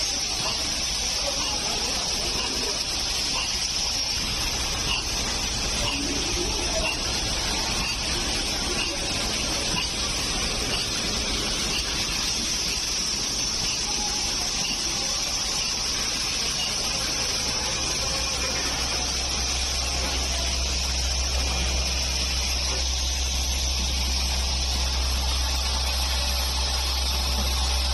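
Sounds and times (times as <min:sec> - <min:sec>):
assembly machinery running: 0:00.0 - 0:27.9.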